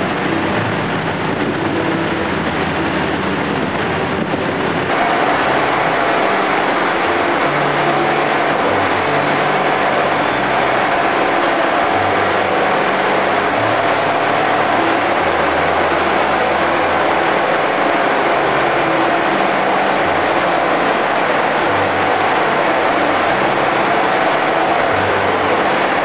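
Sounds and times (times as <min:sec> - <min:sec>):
boat engine machinery running: 0:00.0 - 0:26.0.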